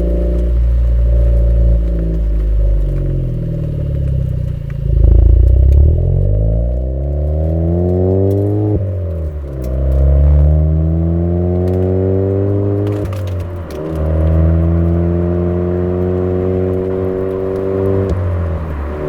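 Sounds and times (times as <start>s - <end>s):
car engine revving: 0.2s - 19.0s.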